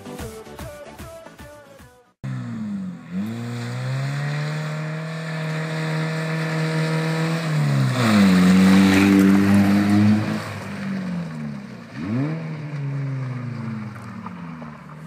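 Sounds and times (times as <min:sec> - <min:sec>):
car engine accelerating: 0:02.2 - 0:15.0.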